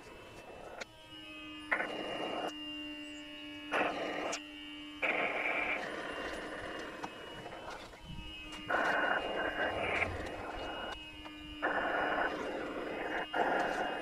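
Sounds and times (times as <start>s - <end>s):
electric pump humming: 0.0s - 14.0s.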